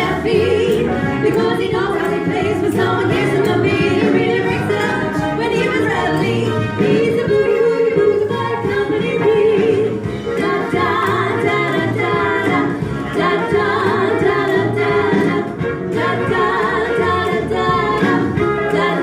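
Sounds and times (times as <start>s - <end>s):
duo singing in harmony: 0.0s - 19.0s
instrumental backing: 0.0s - 19.0s
steady bass line: 0.0s - 19.0s.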